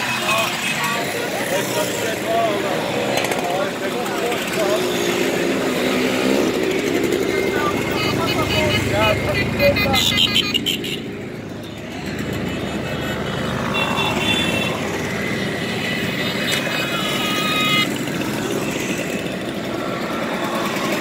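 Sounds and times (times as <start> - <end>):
mopeds passing: 0.0 - 21.0.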